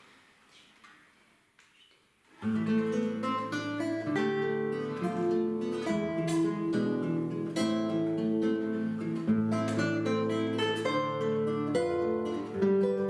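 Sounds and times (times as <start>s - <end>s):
plucked string instruments duet: 2.4s - 13.0s.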